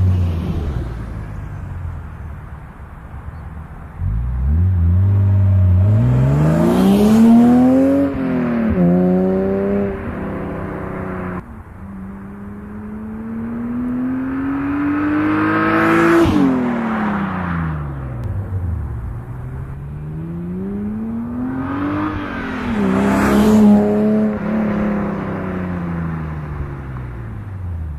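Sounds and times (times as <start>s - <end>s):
car engine accelerating hard: 3.9s - 11.4s, 12.0s - 27.8s.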